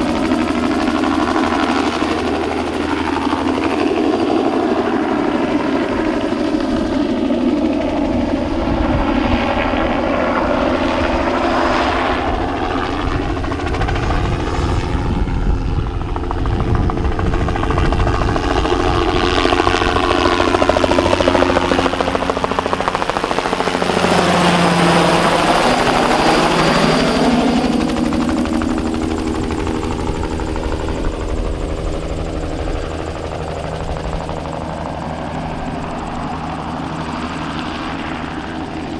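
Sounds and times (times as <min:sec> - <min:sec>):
helicopter flying past: 0:00.0 - 0:38.9.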